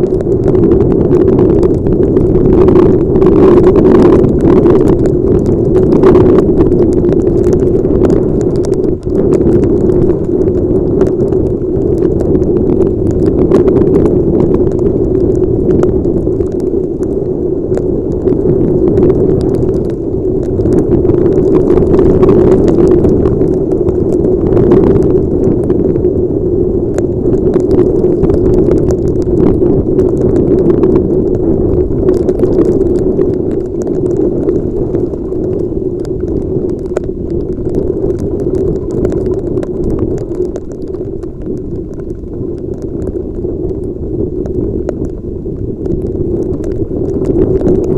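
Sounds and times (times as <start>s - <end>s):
wind and rain on microphone: 0.0s - 47.9s.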